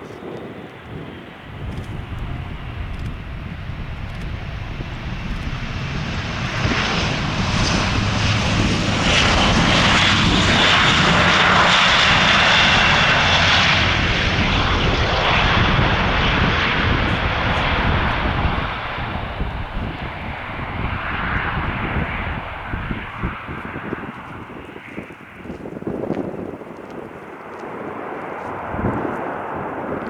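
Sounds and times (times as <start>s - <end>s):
turboprop aircraft drone: 0.0s - 30.0s.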